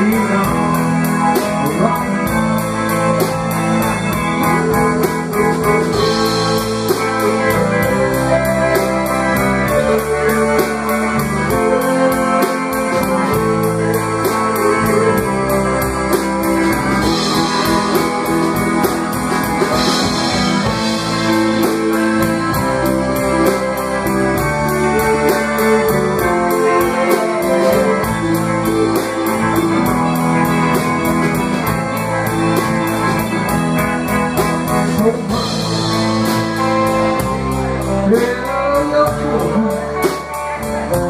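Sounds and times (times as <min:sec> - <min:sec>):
band playing blues-rock: 0:00.0 - 0:41.0
electric guitar: 0:00.0 - 0:41.0
electric keyboard: 0:00.0 - 0:41.0.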